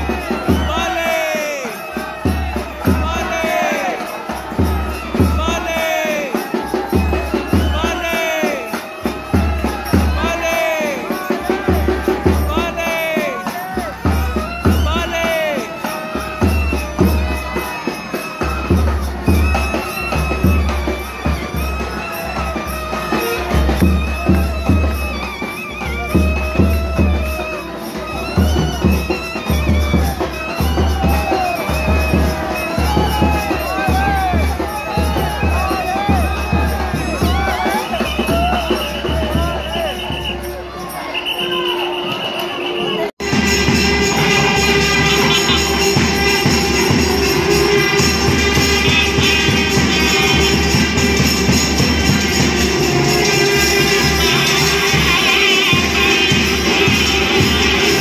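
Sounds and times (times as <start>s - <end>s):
deep drum beats: 0.0s - 40.4s, 43.2s - 58.0s
crowd noise: 0.0s - 58.0s
double-reed pipe melody: 0.0s - 58.0s
procession music: 0.0s - 58.0s.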